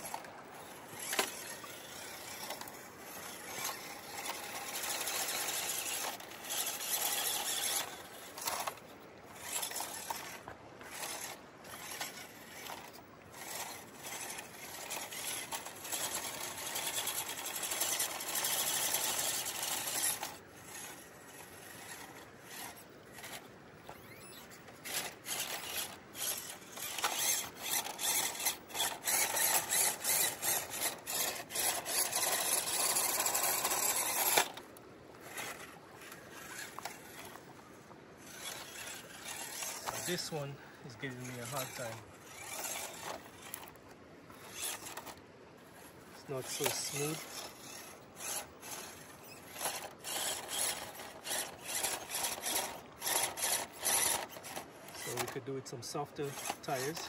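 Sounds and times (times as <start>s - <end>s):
toy car electric motor whining: 0.0s - 57.0s.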